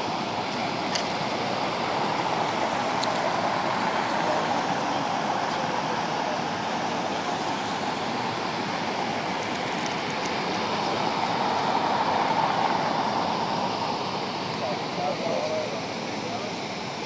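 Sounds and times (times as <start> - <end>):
road traffic hiss and hum: 0.0 - 17.0.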